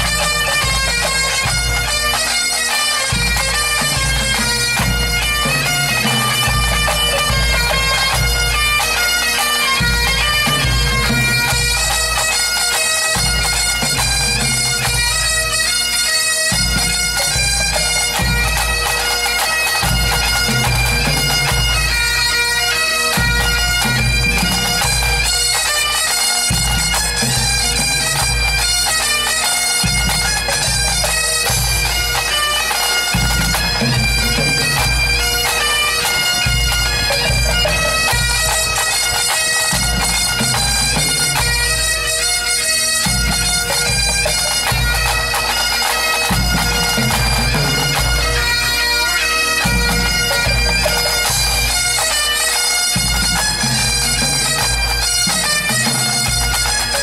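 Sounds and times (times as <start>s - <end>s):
bagpipe drone: 0.0s - 57.0s
bombardes and bagpipes melody: 0.0s - 57.0s.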